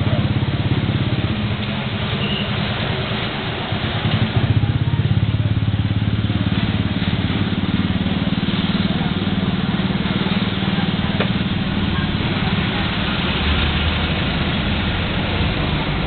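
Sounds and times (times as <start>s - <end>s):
vehicle engine pulsing drone: 0.0s - 16.0s.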